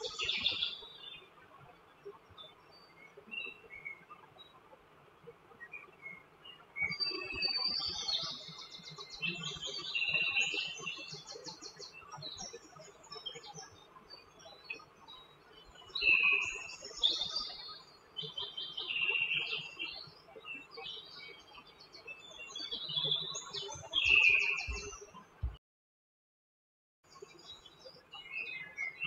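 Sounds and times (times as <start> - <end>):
songbirds chirping: 0.0 - 25.6, 27.1 - 29.0.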